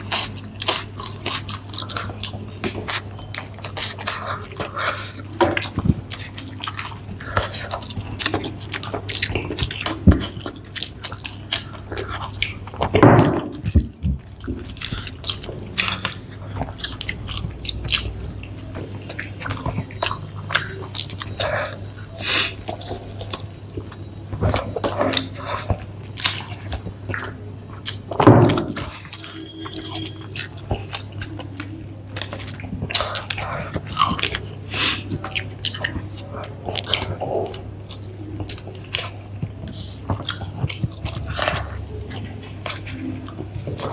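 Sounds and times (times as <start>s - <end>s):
faint low hum: 0.0s - 43.9s
wet chewing and crunching: 0.0s - 43.9s.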